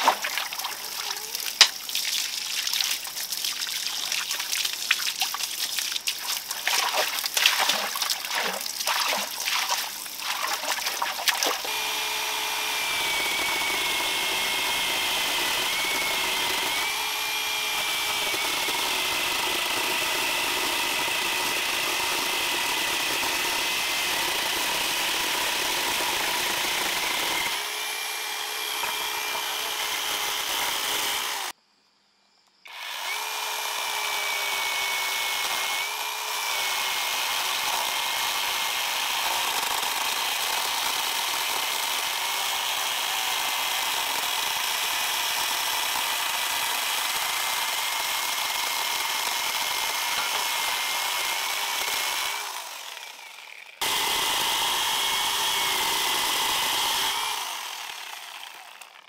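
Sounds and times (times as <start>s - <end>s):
electric chainsaw cutting wood: 0.0s - 31.6s, 32.7s - 59.0s.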